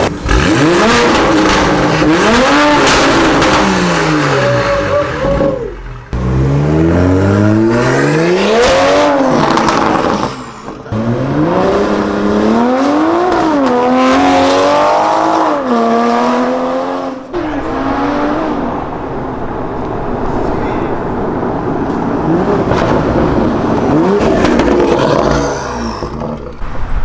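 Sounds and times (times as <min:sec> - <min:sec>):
car engine accelerating hard: 0:00.0 - 0:27.0.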